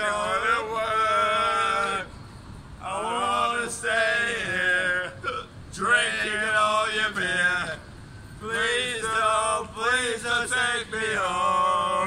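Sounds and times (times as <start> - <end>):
men singing and chanting: 0.0 - 2.2, 2.8 - 12.0.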